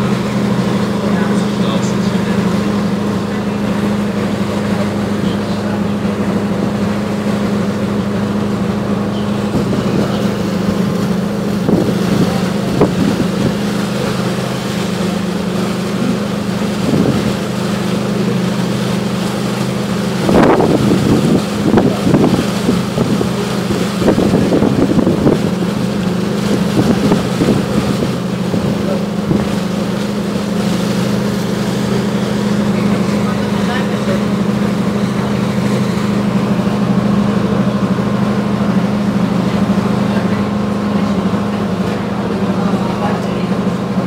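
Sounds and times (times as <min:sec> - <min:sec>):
ferry diesel engine drone: 0:00.0 - 0:44.0
wind buffeting microphone: 0:06.0 - 0:42.9.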